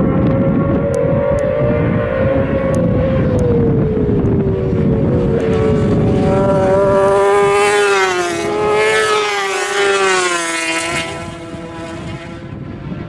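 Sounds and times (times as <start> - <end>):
racing motorcycle passing at high revs: 0.0 - 13.0.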